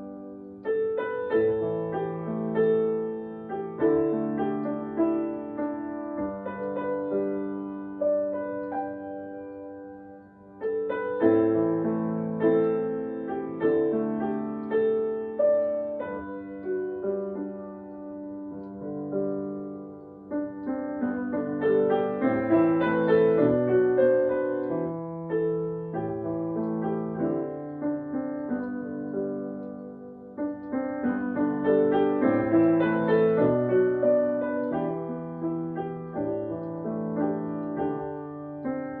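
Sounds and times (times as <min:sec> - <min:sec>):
slow gentle solo piano: 0:00.0 - 0:39.0.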